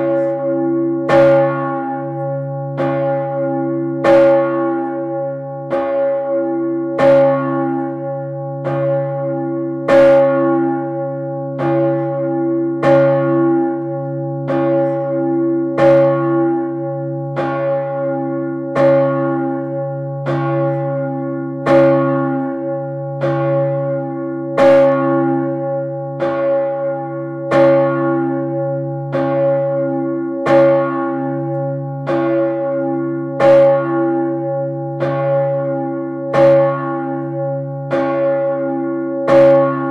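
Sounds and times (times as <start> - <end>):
large tower bell ringing: 0.0 - 39.9.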